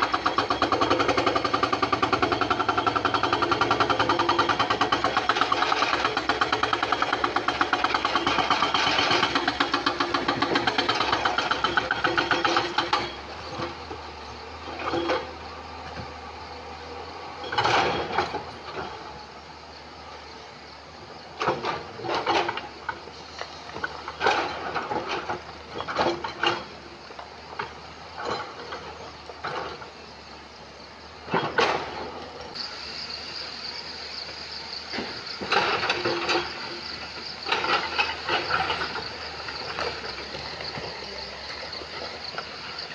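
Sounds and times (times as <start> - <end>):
excavator engine running: 0.0 - 42.9.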